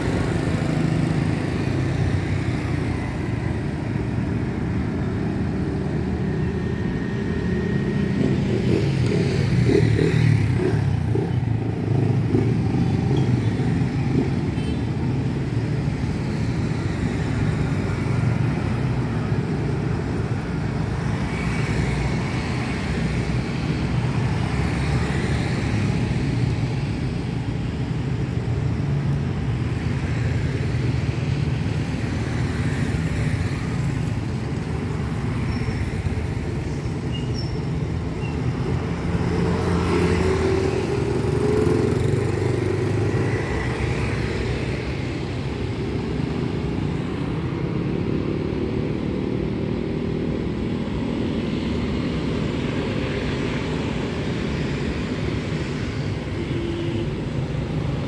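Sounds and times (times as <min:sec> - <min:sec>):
motorcycles and scooters passing: 0:00.0 - 0:58.0.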